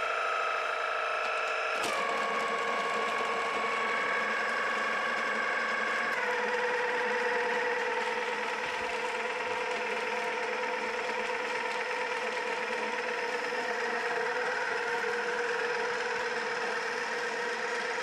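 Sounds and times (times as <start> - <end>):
motor rotor spinning hum: 0.0 - 18.0.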